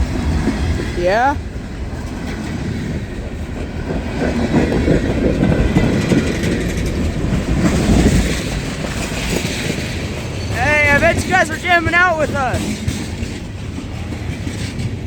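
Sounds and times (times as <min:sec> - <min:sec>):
wheels clacking over rail joints: 0:00.0 - 0:11.8, 0:12.5 - 0:15.0
train wheels rumbling on rail: 0:00.0 - 0:15.0.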